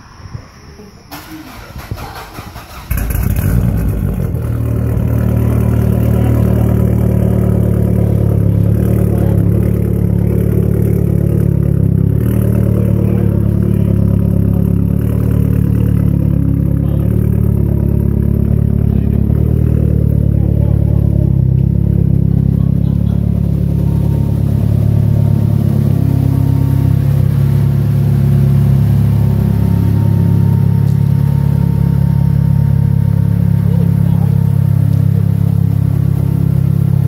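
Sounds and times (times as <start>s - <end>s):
car engine idling: 1.0s - 37.0s.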